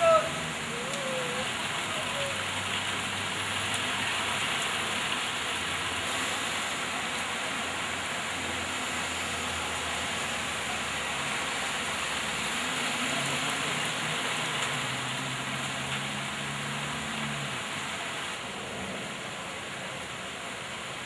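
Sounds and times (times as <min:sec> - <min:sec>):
heavy rain pouring on street: 0:00.0 - 0:21.0.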